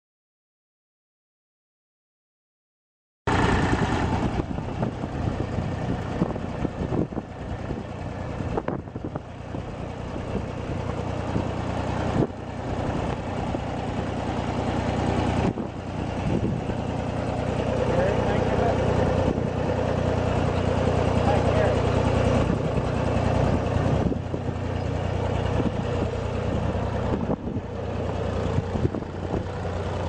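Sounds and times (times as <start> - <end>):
tractor diesel engine running: 3.3 - 30.0.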